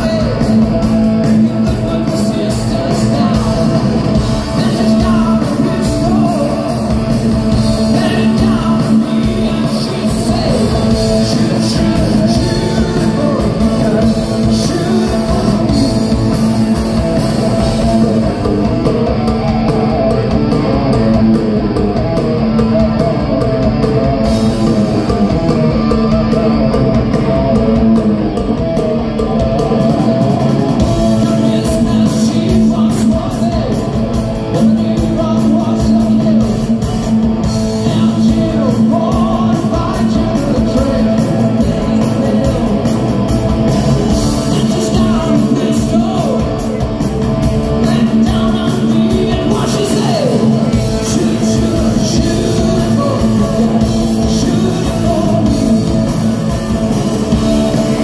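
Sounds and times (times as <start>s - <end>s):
singer's vocals: 0.0s - 19.6s, 23.9s - 58.0s
bass: 0.0s - 58.0s
distorted electric guitars: 0.0s - 58.0s
drums: 0.0s - 58.0s.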